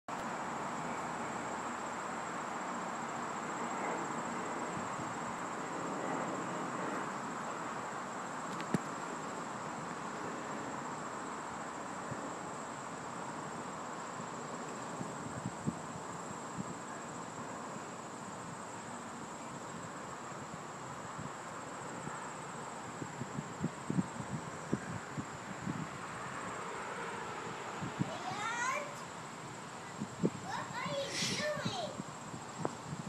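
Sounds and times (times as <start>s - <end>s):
steady low hiss: 0.1s - 33.0s.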